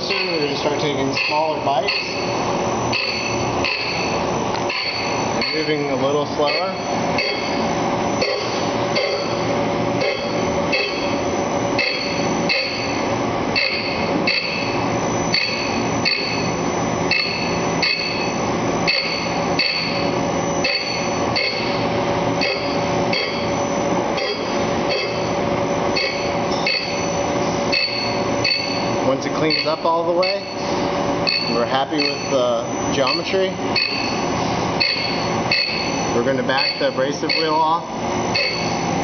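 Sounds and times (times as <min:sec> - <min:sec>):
grinding machine whine: 0:00.0 - 0:39.0.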